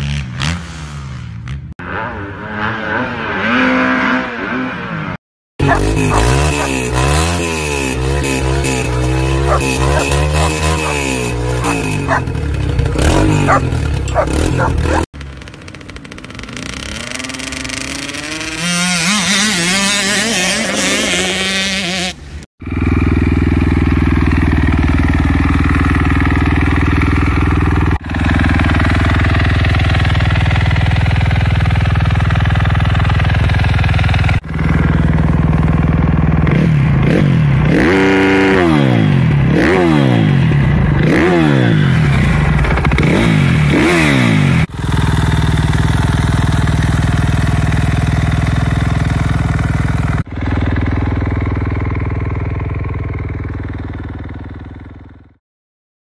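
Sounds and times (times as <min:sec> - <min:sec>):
dirt bike engine revving: 0:00.0 - 0:51.7
motorcycle engine idling and blipped: 0:05.6 - 0:55.4.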